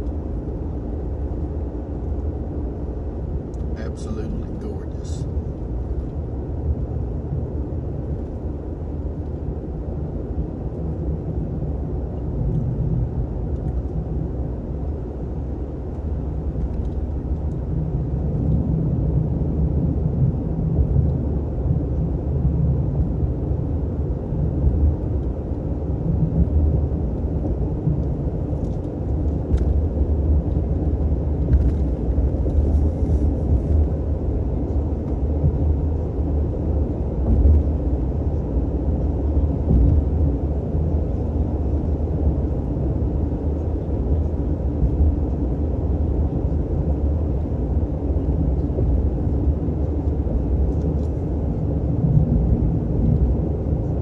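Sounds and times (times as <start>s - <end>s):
engine and road noise inside truck: 0.0s - 54.0s.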